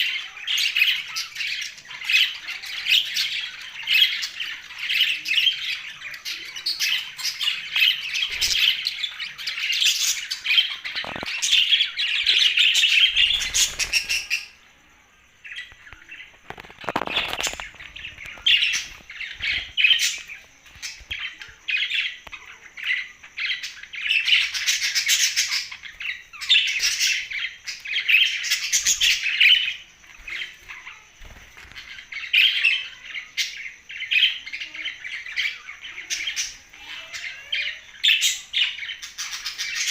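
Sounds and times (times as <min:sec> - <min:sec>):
budgerigars chirping and squawking: 0:00.0 - 0:14.6, 0:15.4 - 0:39.9.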